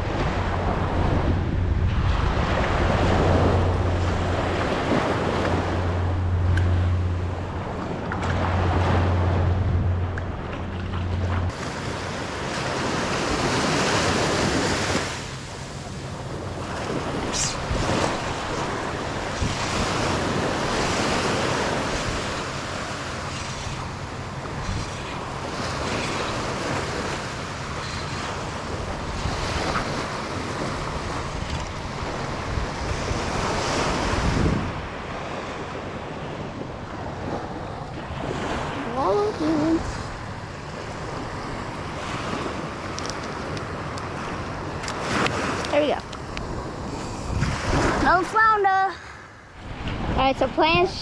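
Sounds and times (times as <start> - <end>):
surf washing up a beach: 0.0 - 51.0
wind buffeting microphone: 0.0 - 51.0.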